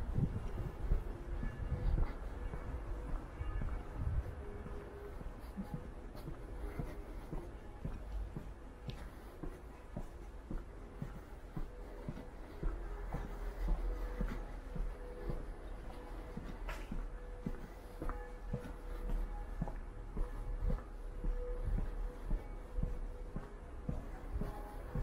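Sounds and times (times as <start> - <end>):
footsteps walking: 0.0 - 25.0
low street rumble: 0.0 - 25.0.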